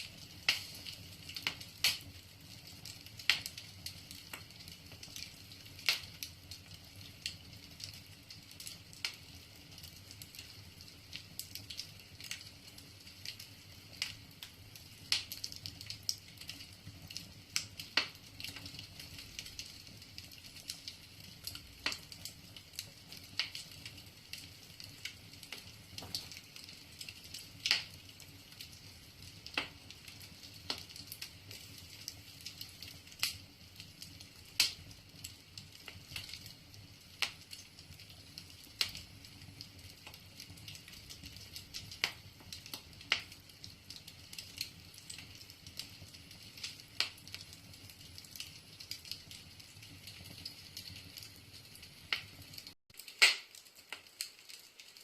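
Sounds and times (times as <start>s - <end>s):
fire crackling and popping: 0.0s - 55.0s
low fire hiss: 0.0s - 55.0s.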